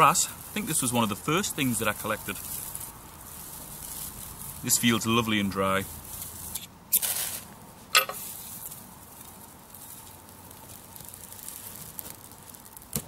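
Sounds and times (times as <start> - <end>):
tinder burning with a hiss: 0.0 - 13.0.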